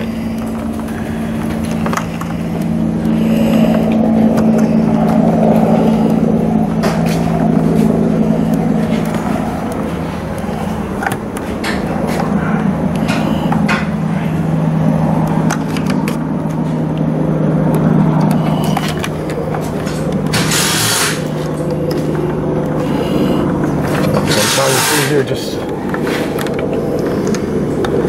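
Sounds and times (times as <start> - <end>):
clicks and rustles of wires: 0.0 - 28.0
steady mechanical drone: 0.0 - 28.0.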